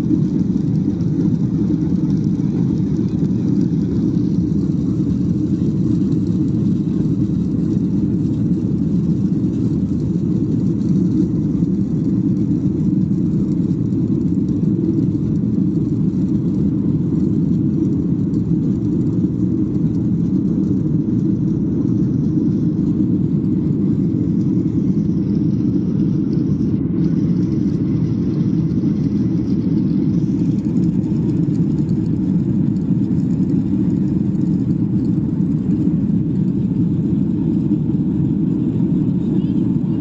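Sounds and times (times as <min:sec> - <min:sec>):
jet engine cabin drone: 0:00.0 - 0:40.0.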